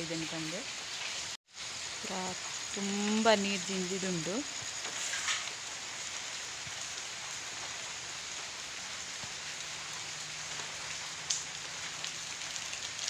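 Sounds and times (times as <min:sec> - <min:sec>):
rain on tiles and roof: 0:00.0 - 0:13.0.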